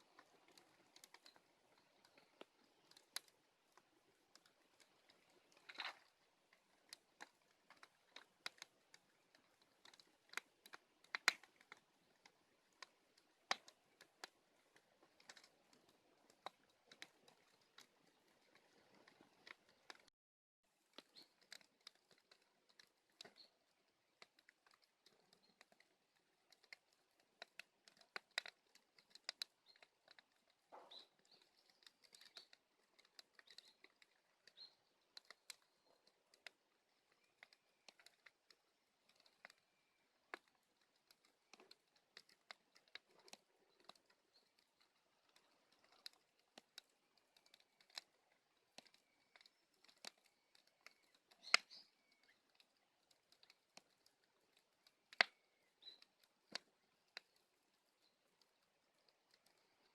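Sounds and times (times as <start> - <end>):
bonfire crackling: 0.0 - 20.1, 20.7 - 59.9
sharp snaps and pops: 0.0 - 20.1, 20.7 - 59.9.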